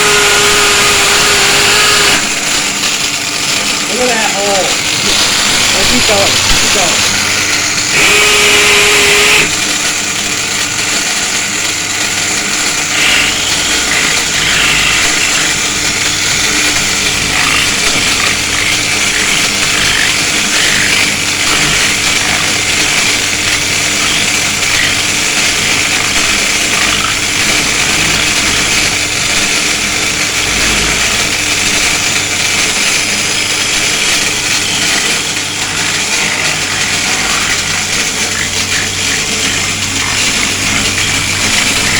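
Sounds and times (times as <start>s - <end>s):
angle grinder running: 0.0s - 41.9s
power drill boring: 0.0s - 41.9s.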